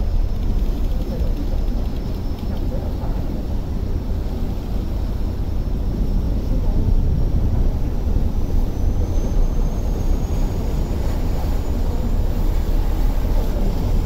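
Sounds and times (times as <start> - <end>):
ferry engine rumble: 0.0 - 14.0
water noise: 0.0 - 14.0.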